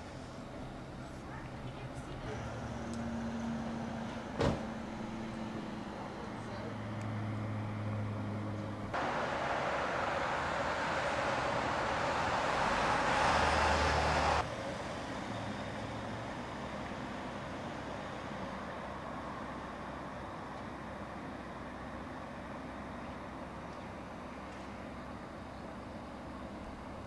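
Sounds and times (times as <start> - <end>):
passing vehicles hissing: 0.0 - 27.0.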